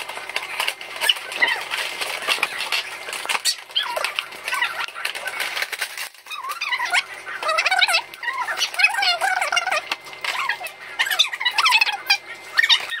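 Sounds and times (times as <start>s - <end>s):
cardboard and plastic being torn: 0.0s - 12.0s.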